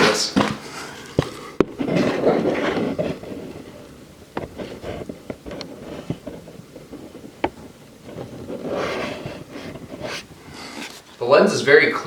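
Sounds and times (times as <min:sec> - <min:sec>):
low background rustle: 0:00.0 - 0:12.0.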